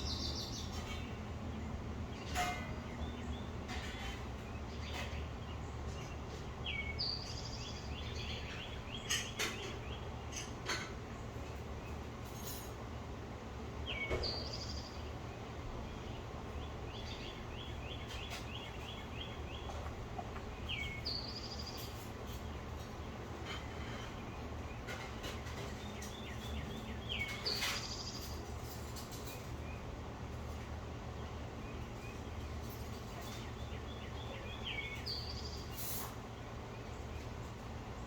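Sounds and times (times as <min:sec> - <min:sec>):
songbird singing: 0:00.0 - 0:03.7, 0:04.3 - 0:12.1, 0:13.8 - 0:38.0.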